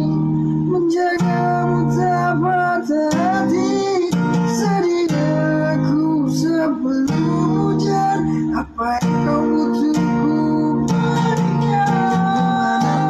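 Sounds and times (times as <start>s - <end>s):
acoustic guitar strumming chords: 0.0s - 13.0s
person singing slow melody: 0.0s - 13.0s.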